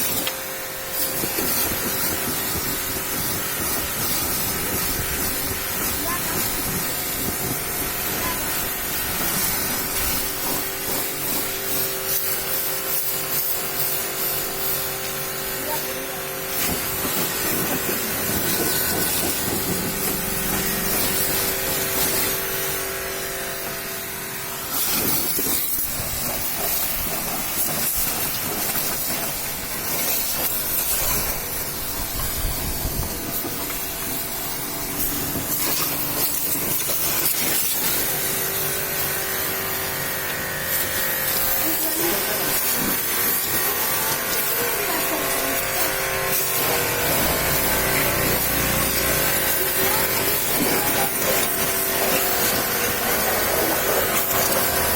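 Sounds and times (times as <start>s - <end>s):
pressure washer spraying water: 0.0s - 54.9s.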